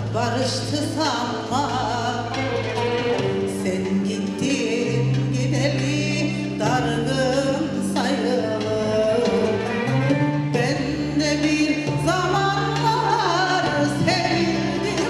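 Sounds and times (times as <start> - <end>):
violins: 0.0 - 15.0
woman singing with vibrato: 0.0 - 15.0.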